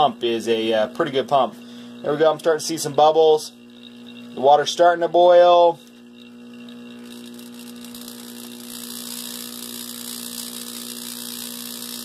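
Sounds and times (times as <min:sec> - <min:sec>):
compressor electric hum: 0:00.0 - 0:12.0.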